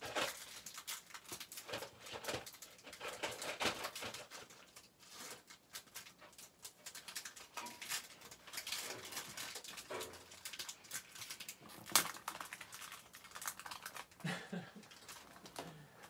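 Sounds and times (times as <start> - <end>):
foil wrapper crinkling and tearing: 0.0 - 15.8.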